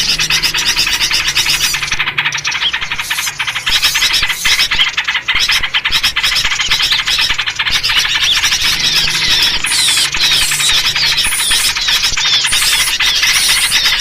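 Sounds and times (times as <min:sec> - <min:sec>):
small birds chattering: 0:00.0 - 0:14.0.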